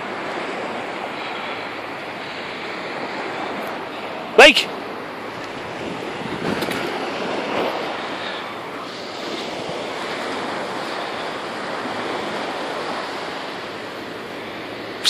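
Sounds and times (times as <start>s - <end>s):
surf on a beach: 0.0s - 15.0s
wind: 0.0s - 15.0s.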